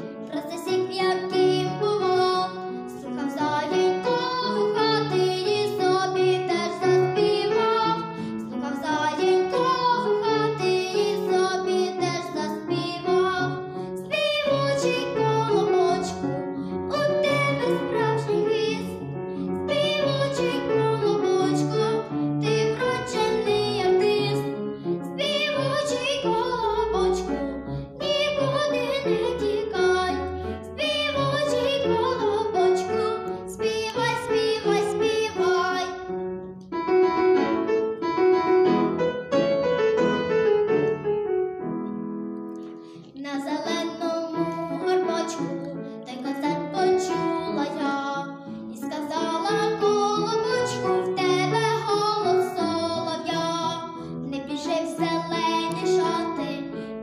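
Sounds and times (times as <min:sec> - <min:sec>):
girl singing: 0:00.0 - 0:36.2, 0:43.0 - 0:56.8
piano accompaniment: 0:00.0 - 0:57.0.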